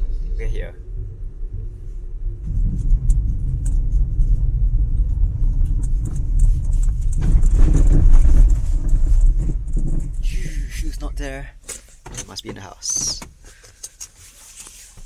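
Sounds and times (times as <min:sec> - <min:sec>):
car engine rumbling: 0:00.0 - 0:14.6.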